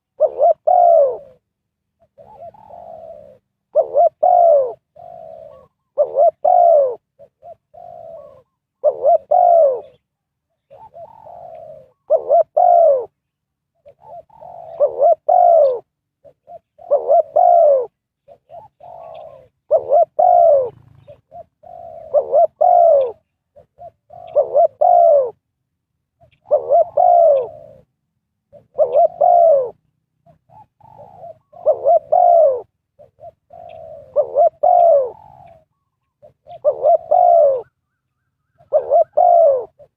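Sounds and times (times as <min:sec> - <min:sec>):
dove cooing: 0:00.0 - 0:25.5, 0:26.1 - 0:39.9.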